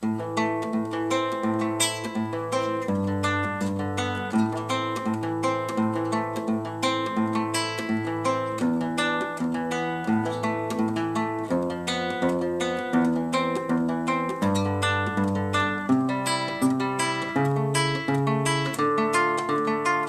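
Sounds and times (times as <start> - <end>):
acoustic guitar instrumental: 0.0 - 20.0.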